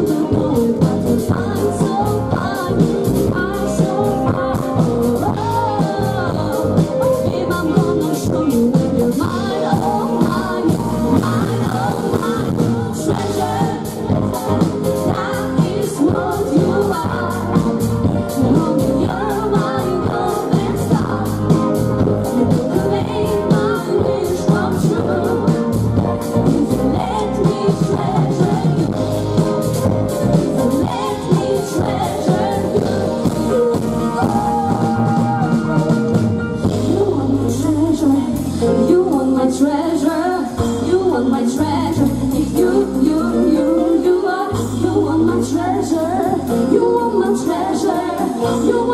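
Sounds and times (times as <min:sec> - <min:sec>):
drums with cymbal beat: 0:00.0 - 0:48.9
electric bass: 0:00.0 - 0:48.9
electric guitar: 0:00.0 - 0:48.9
women singing: 0:00.0 - 0:48.9.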